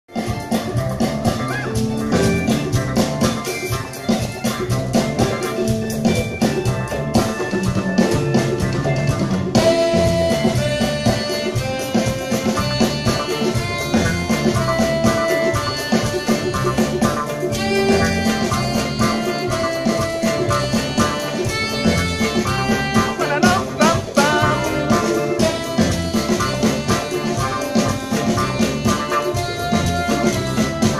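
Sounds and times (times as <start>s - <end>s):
afrobeat band playing: 0.0s - 30.9s
held melody notes: 0.1s - 30.9s.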